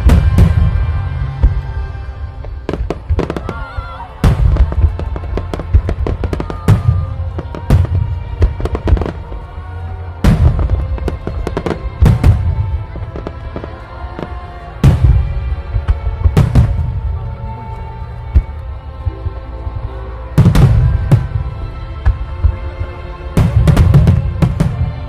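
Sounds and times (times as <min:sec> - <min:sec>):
fireworks booms: 0:00.0 - 0:17.3, 0:20.4 - 0:25.0
background music: 0:00.0 - 0:25.0
fireworks bangs and crackles: 0:00.0 - 0:25.0.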